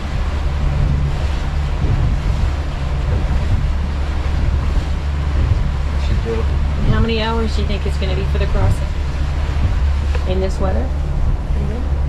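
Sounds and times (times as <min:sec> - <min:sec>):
boat engine droning: 0:00.0 - 0:12.0
water washing against hull: 0:00.0 - 0:12.0.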